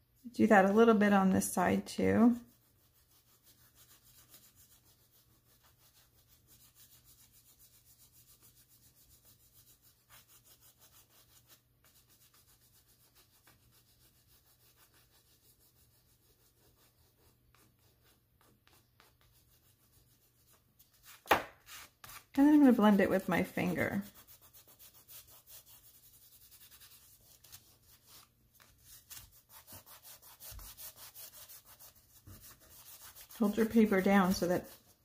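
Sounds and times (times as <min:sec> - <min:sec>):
oil pastel rubbing on paper: 0:02.2 - 0:35.0.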